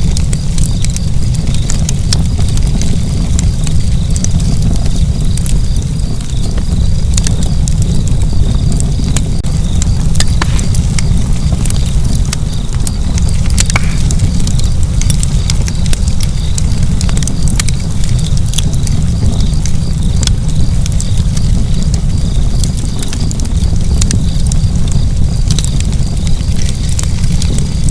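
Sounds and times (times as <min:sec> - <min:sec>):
fire crackling and popping: 0:00.0 - 0:27.9
fire rumbling: 0:00.0 - 0:27.9.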